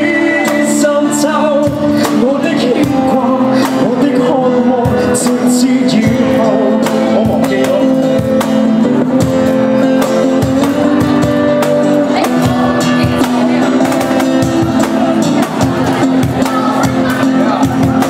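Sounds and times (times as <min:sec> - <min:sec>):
hand-played box drum: 0:00.0 - 0:18.0
man singing: 0:00.0 - 0:18.0
strummed acoustic guitar: 0:00.0 - 0:18.0.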